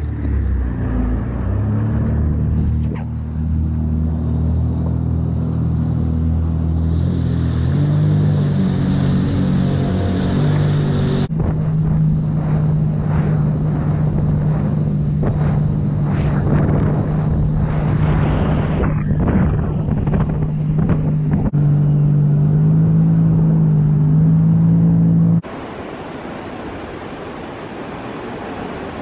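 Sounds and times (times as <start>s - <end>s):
rushing water: 0.0s - 19.1s, 20.2s - 29.0s
jet ski engine running: 0.0s - 25.6s
wind: 0.0s - 29.0s.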